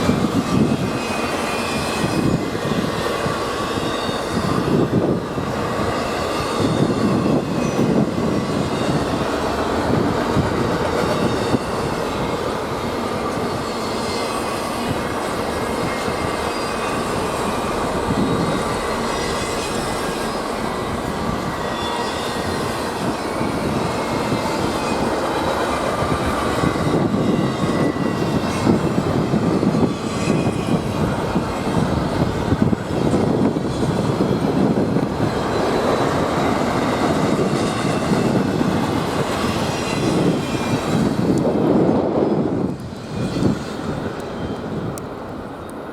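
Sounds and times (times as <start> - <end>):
high wheel squeal: 0.0 - 45.8
train wheels rumbling on track: 0.0 - 45.9.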